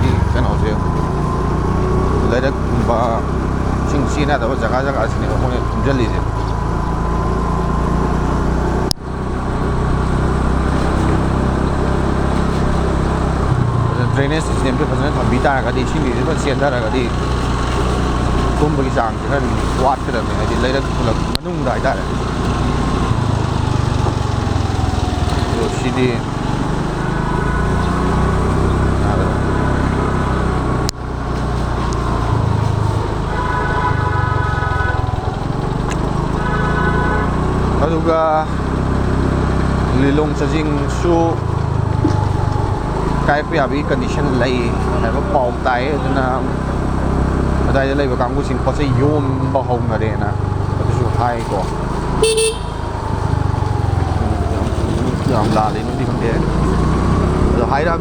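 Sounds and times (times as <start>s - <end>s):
road and traffic noise: 0.0s - 58.0s
scooter engine running: 0.0s - 58.0s.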